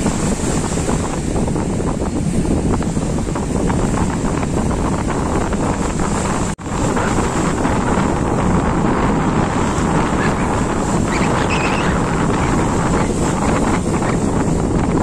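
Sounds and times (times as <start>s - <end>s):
sea waves washing in: 0.0s - 15.0s
wind buffeting microphone: 0.0s - 15.0s.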